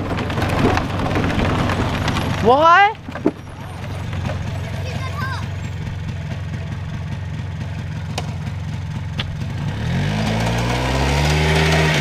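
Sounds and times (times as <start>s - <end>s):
truck engine idling and revving: 0.0s - 12.0s.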